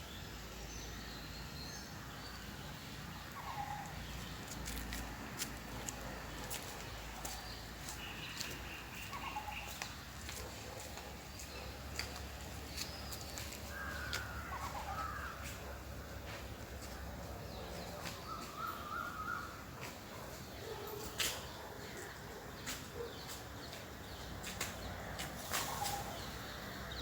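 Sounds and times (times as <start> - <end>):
bird calls: 2.3 - 27.0.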